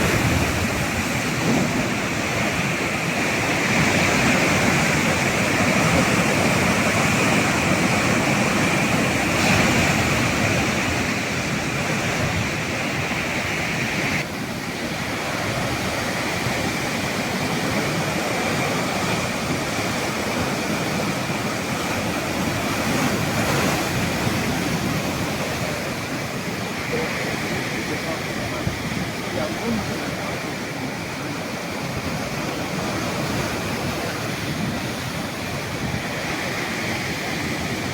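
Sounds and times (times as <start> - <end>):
sea waves washing on shore: 0.0 - 37.9.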